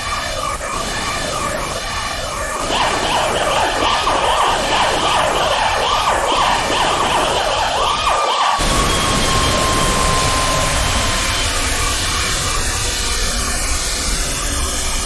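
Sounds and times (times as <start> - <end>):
siren-like warbling tone: 0.0 - 13.5.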